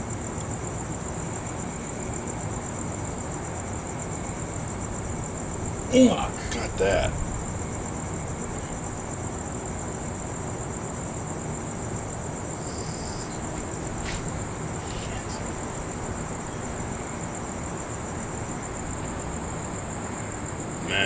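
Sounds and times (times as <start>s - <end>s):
crickets trilling: 0.0s - 21.0s
low background noise: 0.0s - 21.0s.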